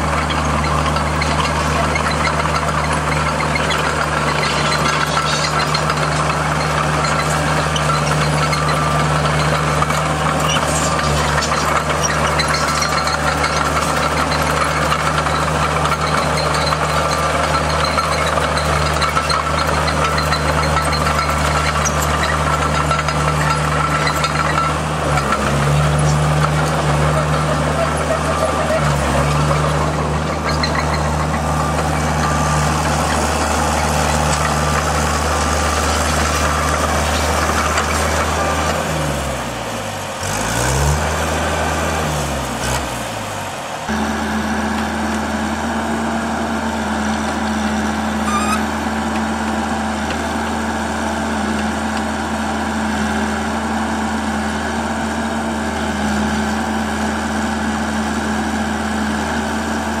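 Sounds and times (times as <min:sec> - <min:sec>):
drill rig engine running: 0:00.0 - 1:00.0.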